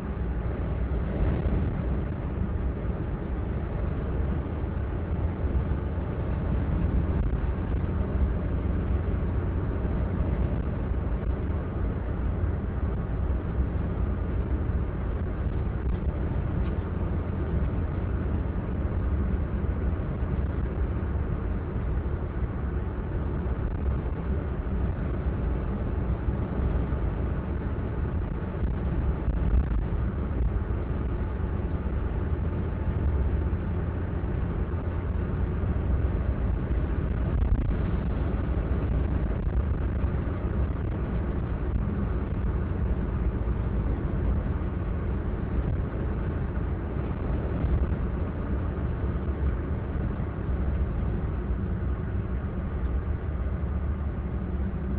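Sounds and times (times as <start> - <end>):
car interior road noise: 0.0 - 54.9.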